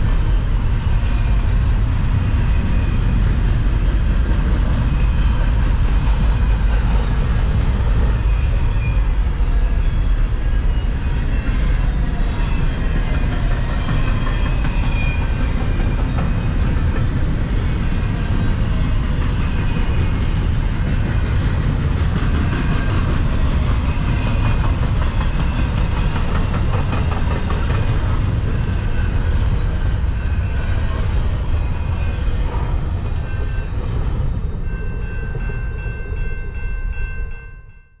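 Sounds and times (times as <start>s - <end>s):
train wheels rumbling on rail: 0.0s - 37.4s.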